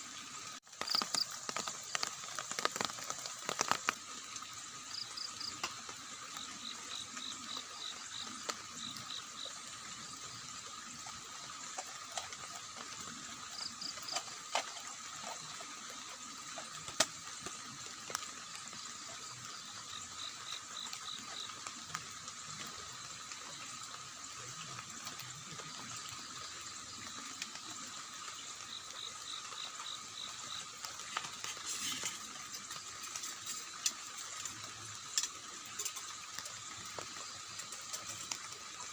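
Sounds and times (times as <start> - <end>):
rain: 0.0 - 38.9
drips ticking: 0.2 - 38.9.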